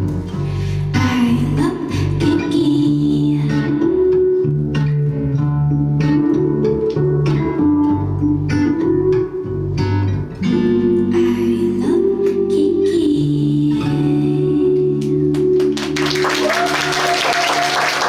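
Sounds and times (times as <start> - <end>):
strummed guitar chords: 0.0 - 16.0
bass line: 0.0 - 17.1.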